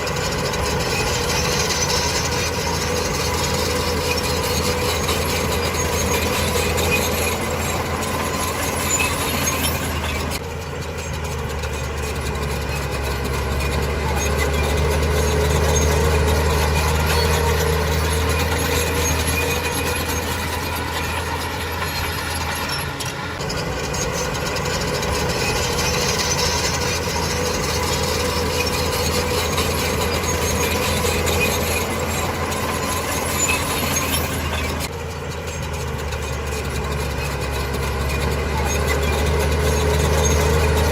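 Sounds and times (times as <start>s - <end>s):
diesel machinery engine drone: 0.0s - 40.9s.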